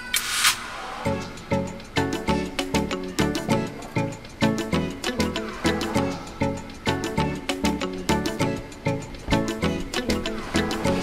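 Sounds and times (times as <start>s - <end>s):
music with steady beat: 1.1s - 11.0s.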